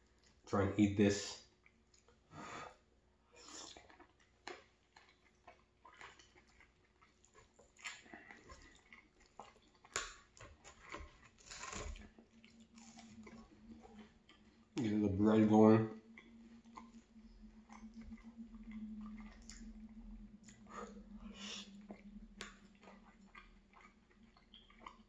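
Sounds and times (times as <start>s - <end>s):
quiet chewing mouth sounds: 0.0s - 0.5s, 1.4s - 25.0s.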